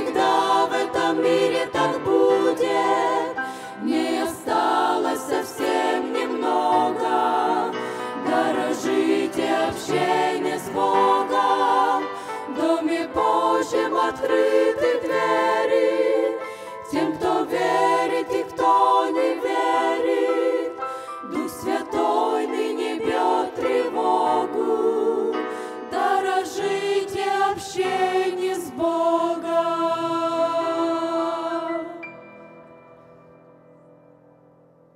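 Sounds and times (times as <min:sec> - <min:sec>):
women singing a hymn in harmony: 0:00.0 - 0:32.2.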